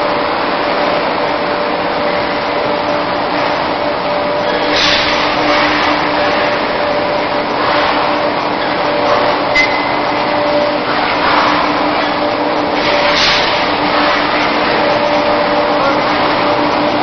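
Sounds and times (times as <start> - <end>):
low machine hum: 0.0 - 17.0
welding line machine hiss: 0.1 - 17.0.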